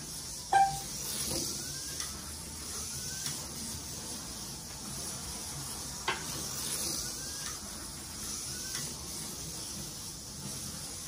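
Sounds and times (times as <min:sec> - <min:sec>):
slot car hissing and whining: 0:00.0 - 0:11.0.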